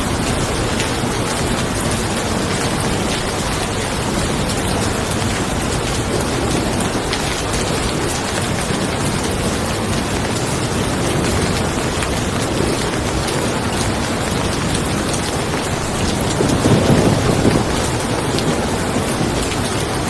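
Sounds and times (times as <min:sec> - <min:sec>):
rain falling on a car: 0:00.0 - 0:20.0.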